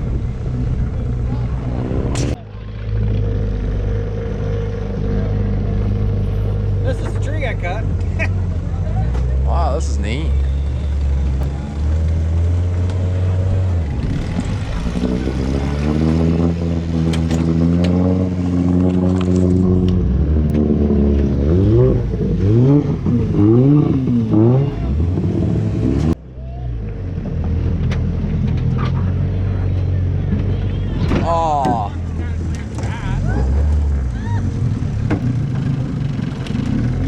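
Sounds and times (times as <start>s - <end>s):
engine running and revving: 0.0s - 37.0s.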